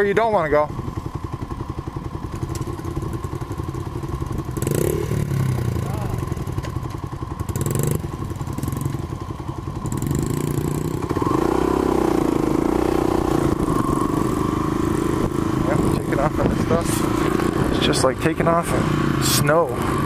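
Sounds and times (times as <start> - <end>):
small dirt bike engine: 0.0 - 20.0.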